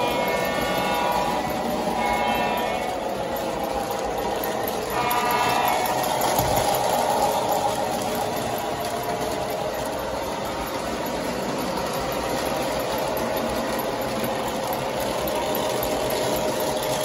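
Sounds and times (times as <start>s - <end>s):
model trains rumbling on metal track: 0.0s - 17.0s.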